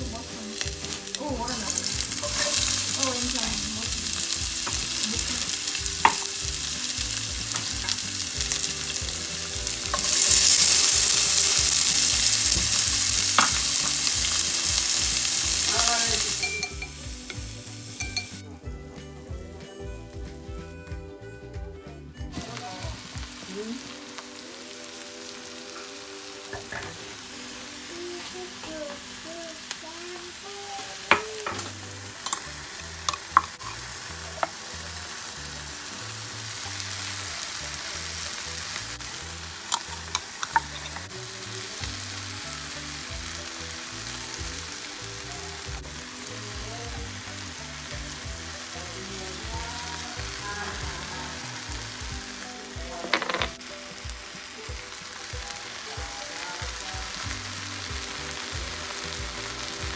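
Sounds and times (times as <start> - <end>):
vegetables frying in a pot: 0.0 - 18.6, 22.3 - 59.9.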